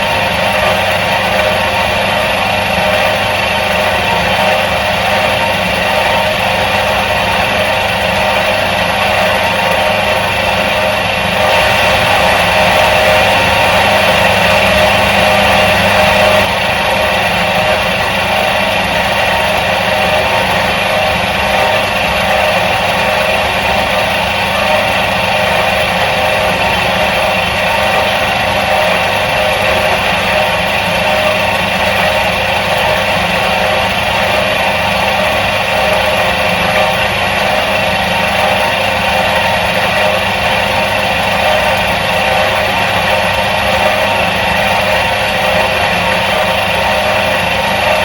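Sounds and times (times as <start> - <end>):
washing machine motor humming: 0.0 - 48.0.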